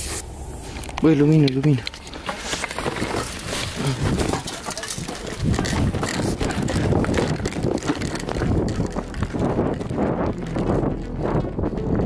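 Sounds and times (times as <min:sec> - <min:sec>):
camera and clothing jostling: 0:01.8 - 0:12.0
running footsteps: 0:01.9 - 0:12.0.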